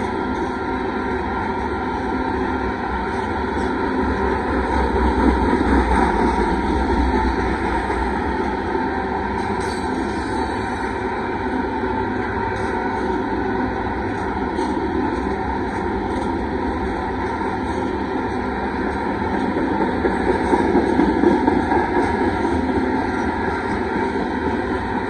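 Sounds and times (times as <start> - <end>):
steel wheels rumbling on rails: 0.0 - 25.0.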